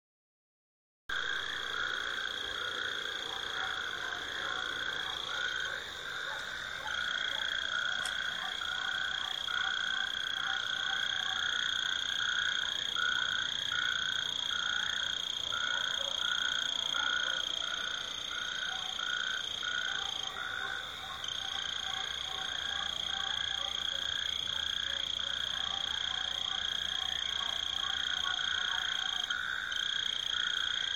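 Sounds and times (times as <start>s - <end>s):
frogs chorusing: 1.1s - 30.9s.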